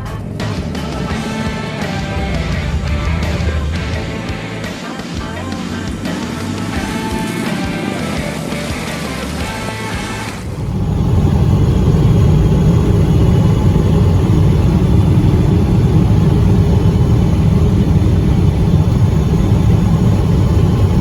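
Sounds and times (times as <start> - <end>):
car engine driving: 0.0 - 21.0.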